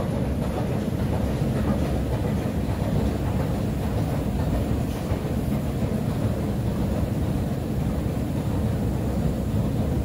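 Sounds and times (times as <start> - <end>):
escalator machinery rumbling: 0.0 - 10.0.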